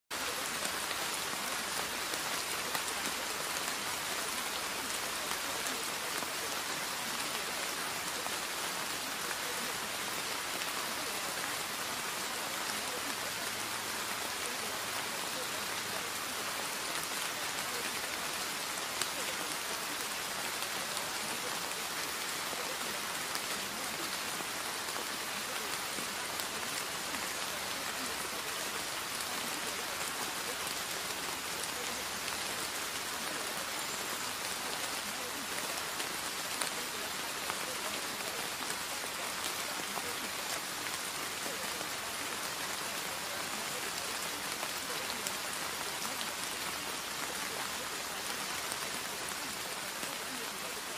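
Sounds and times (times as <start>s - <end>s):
steady rain hiss: 0.1s - 50.9s.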